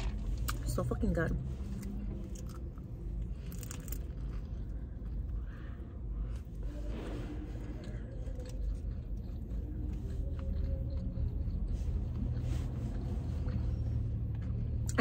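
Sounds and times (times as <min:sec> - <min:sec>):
low rumble inside car: 0:00.0 - 0:15.0.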